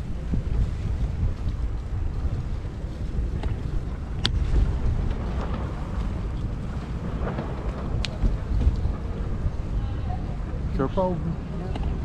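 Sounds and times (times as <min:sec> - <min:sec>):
tyres on brick paving: 0:00.0 - 0:12.0
wind buffeting microphone: 0:00.0 - 0:12.0.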